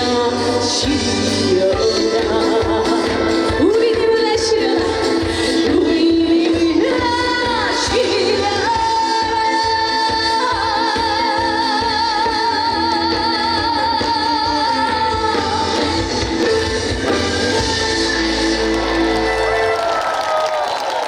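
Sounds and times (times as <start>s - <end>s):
woman singing with vibrato: 0.0s - 19.8s
band accompaniment: 0.0s - 21.0s.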